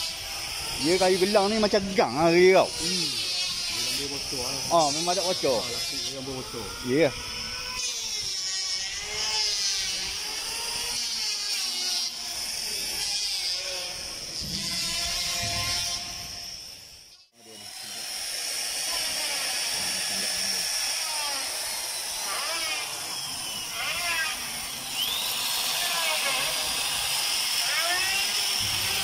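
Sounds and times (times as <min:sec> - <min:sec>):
power tool high whine: 0:00.0 - 0:29.0.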